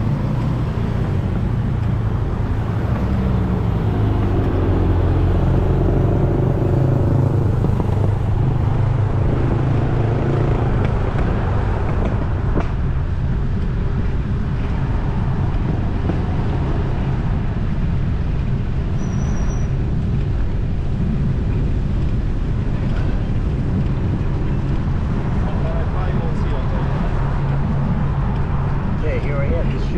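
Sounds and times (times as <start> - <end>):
road noise: 0.0 - 29.9
vehicle engine humming: 0.0 - 29.9.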